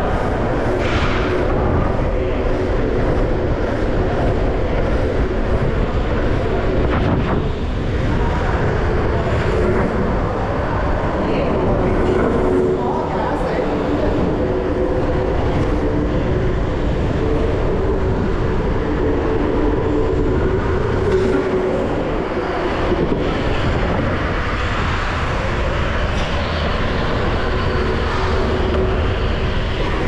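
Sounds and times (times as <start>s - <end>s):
wheels rolling fast on road: 0.0s - 30.0s.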